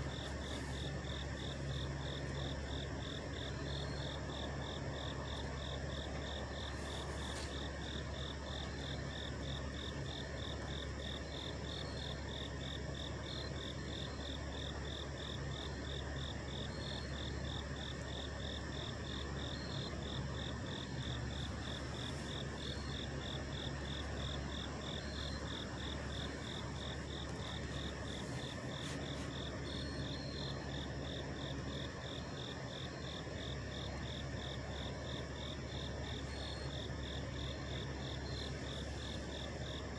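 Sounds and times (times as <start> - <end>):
trucks idling: 0.0 - 12.9, 16.6 - 39.9
insect chirping: 0.0 - 39.9.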